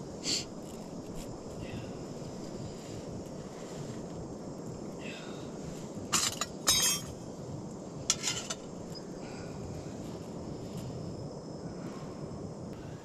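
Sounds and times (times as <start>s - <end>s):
steady wind noise: 0.0s - 13.0s.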